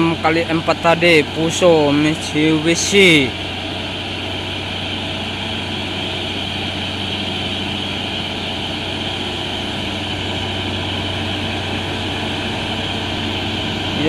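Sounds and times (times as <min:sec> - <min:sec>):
heavy diesel truck engine under load: 0:00.0 - 0:14.0.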